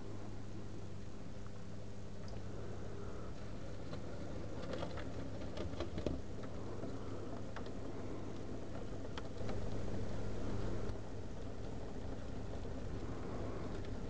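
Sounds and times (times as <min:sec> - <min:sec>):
electric motor hum: 0:00.0 - 0:14.0.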